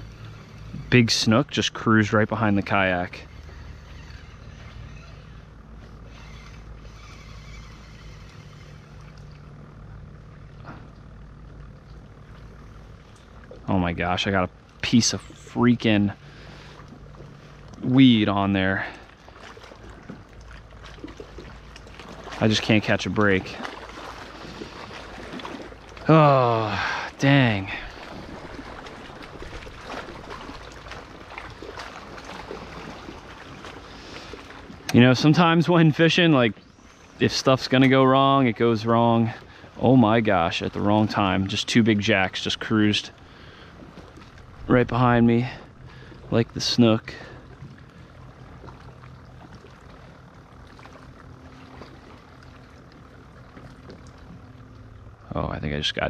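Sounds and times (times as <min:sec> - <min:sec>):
faint low hum: 0:00.0 - 0:56.0
small water splashes: 0:00.0 - 0:56.0
water lapping against kayak hull: 0:00.0 - 0:56.0.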